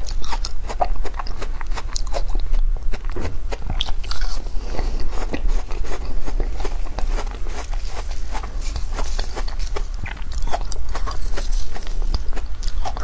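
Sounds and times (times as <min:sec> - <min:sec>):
ice being chewed crunching: 0:00.0 - 0:13.0.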